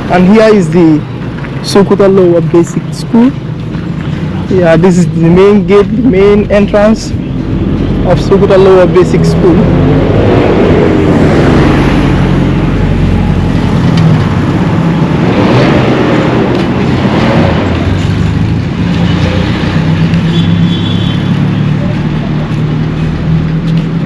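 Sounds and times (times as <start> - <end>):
steady traffic engine drone: 0.0 - 24.0
vehicles passing close by: 0.0 - 24.0.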